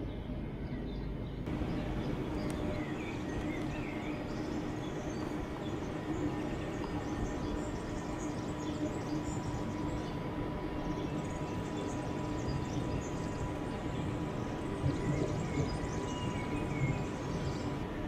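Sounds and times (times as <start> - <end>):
small birds chirping: 0.0 - 17.9
machinery hum: 0.0 - 18.0.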